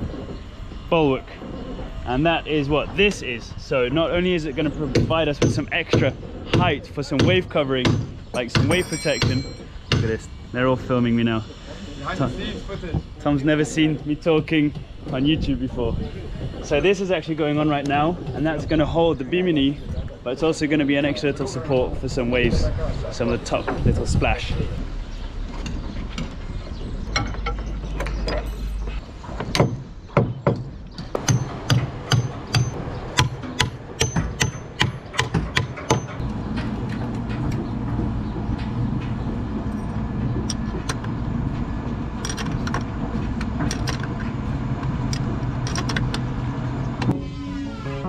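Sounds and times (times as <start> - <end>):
low mechanical drone: 0.0 - 30.1, 30.7 - 48.0.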